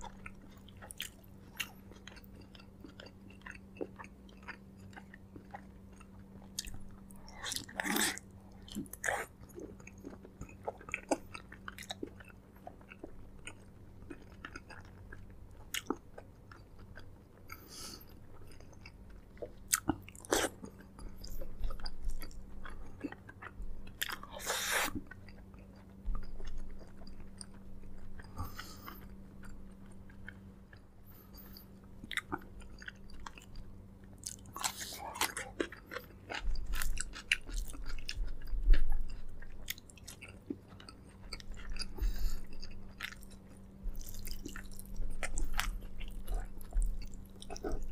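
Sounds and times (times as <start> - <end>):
faint steady hum: 0.0 - 47.9
person chewing wetly: 0.0 - 47.9.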